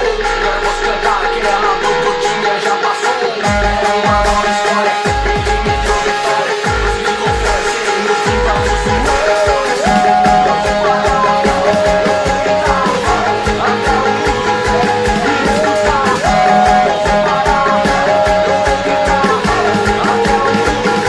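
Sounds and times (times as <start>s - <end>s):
backing track with drum beat: 0.0s - 21.0s
lead guitar riff: 0.0s - 21.0s.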